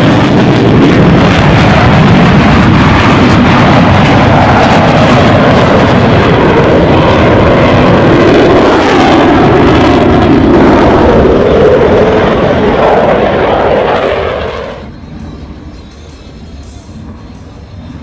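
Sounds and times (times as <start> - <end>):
fighter jet engine noise: 0.0 - 18.0.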